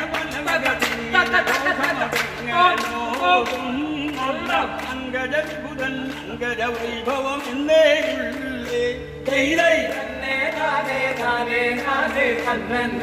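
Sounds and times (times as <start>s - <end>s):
percussion beat: 0.0s - 13.0s
song with singing: 0.0s - 13.0s.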